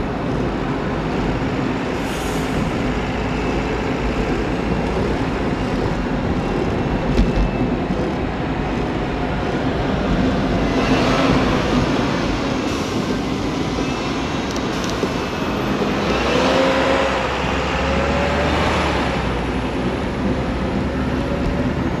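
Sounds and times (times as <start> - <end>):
bus engines: 0.0 - 22.0
road traffic: 0.0 - 22.0.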